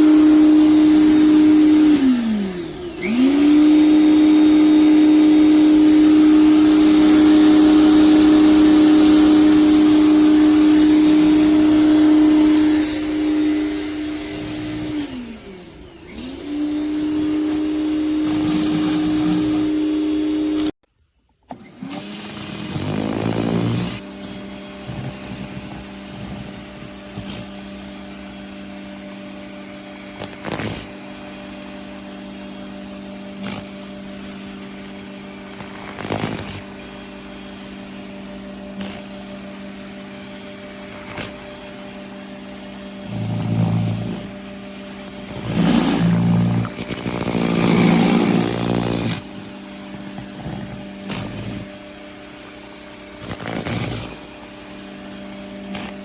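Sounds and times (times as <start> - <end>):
electric pressure washer running: 0.0 - 20.8, 21.5 - 56.0.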